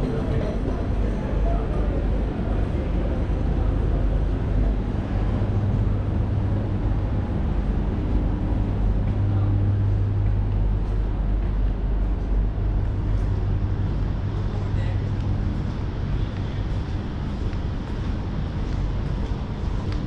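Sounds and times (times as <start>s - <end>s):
low hum: 0.0s - 20.0s
road traffic rumble: 0.0s - 20.0s.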